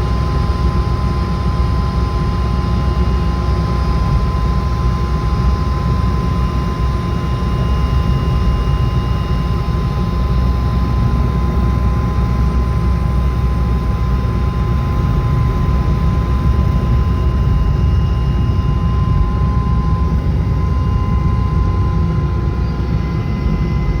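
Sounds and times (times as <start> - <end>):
helicopter high whine: 0.0 - 24.0
helicopter rumble: 0.0 - 24.0.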